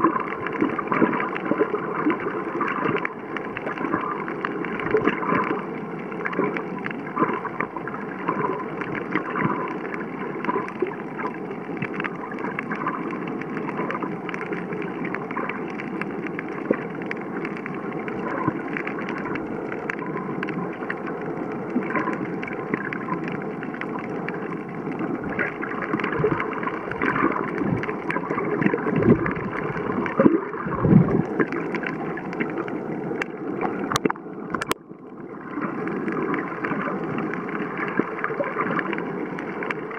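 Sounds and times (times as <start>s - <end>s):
faint crackles and clicks: 0.0s - 39.9s
underwater water noise: 0.0s - 39.9s.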